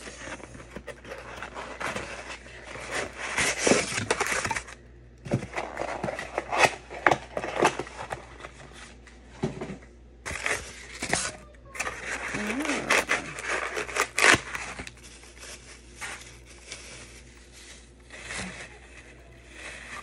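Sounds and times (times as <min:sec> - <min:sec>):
cardboard rustling and scraping: 0:00.0 - 0:20.0.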